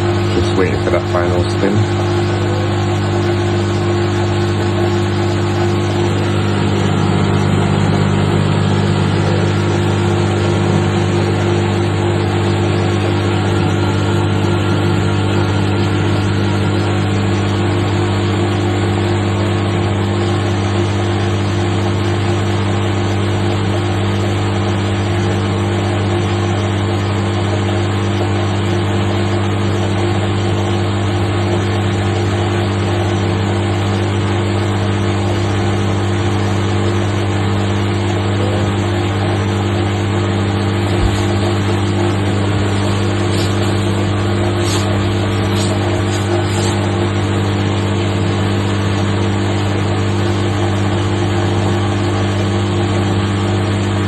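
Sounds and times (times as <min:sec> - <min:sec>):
drain pump humming: 0:00.0 - 0:54.0.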